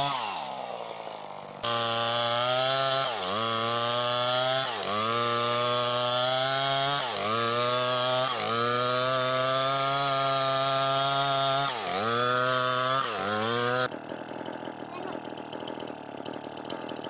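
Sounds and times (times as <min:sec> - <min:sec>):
chainsaw engine at high revs: 0:00.0 - 0:17.0.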